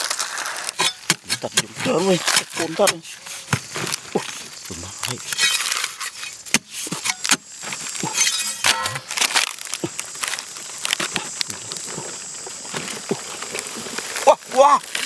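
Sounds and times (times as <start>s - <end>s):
dry clods crumbling and scraping: 0.0s - 15.0s
dry earth cracking: 0.0s - 15.0s.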